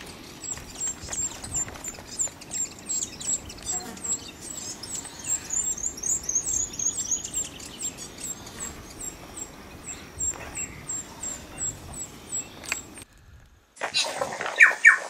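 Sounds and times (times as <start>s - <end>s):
small bird chirping: 0.0s - 13.1s.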